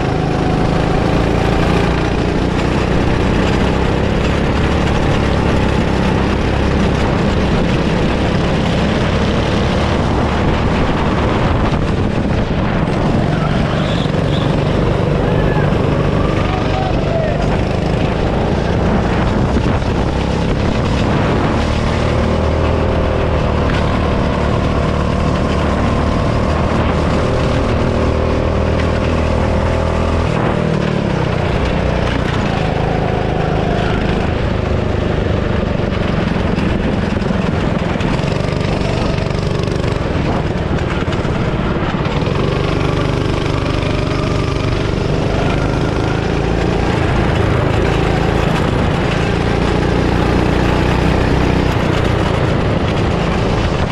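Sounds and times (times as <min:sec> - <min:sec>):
go-kart engine running: 0:00.0 - 0:53.9.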